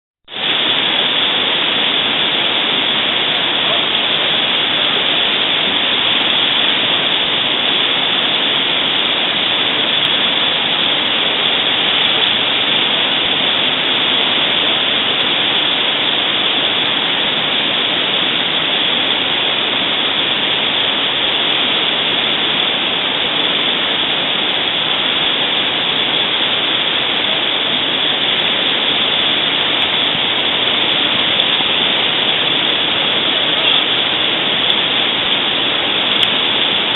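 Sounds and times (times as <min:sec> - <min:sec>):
river water rushing: 0:00.3 - 0:36.9.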